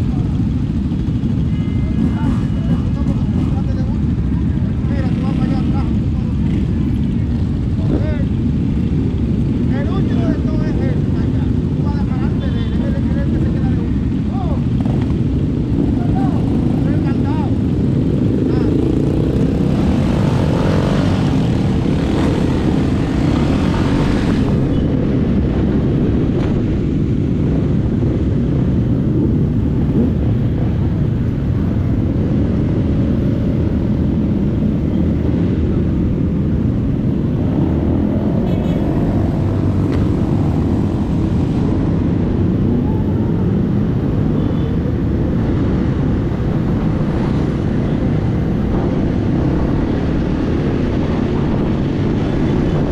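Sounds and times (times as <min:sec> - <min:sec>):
motorcycle engine drone: 0:00.0 - 0:52.9
wind noise: 0:05.6 - 0:52.9.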